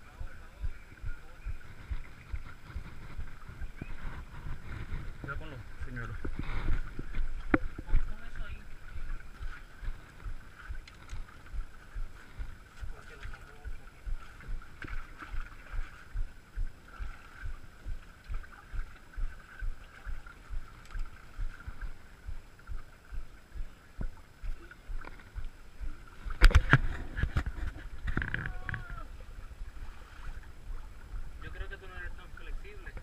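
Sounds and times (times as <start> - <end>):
background hiss: 0.0 - 33.0
footsteps on river rocks: 0.0 - 33.0.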